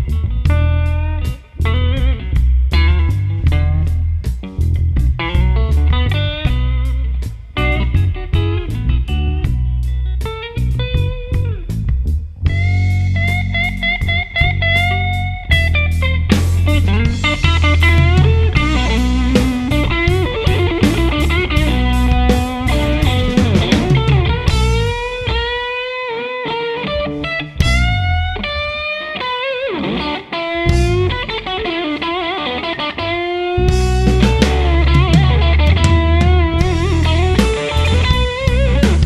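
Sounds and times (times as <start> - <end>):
bass and drums: 0.0 - 26.1, 26.9 - 28.9, 30.6 - 31.8, 33.6 - 39.0
electric guitar soloing: 0.0 - 39.0.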